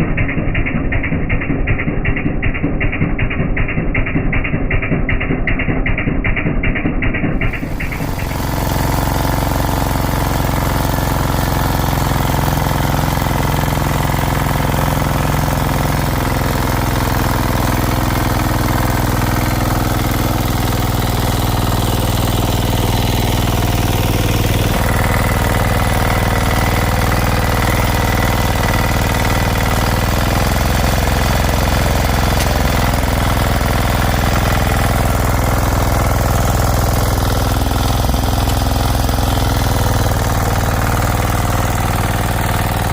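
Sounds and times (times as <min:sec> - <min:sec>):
small engine droning: 0:00.0 - 0:42.9.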